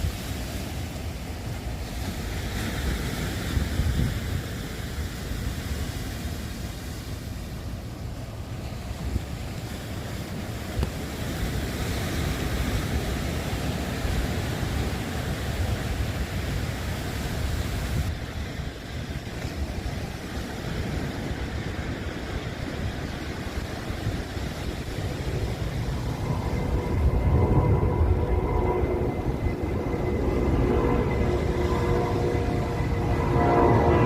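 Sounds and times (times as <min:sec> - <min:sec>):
rushing water: 0:00.0 - 0:34.0
wind buffeting microphone: 0:00.0 - 0:34.0.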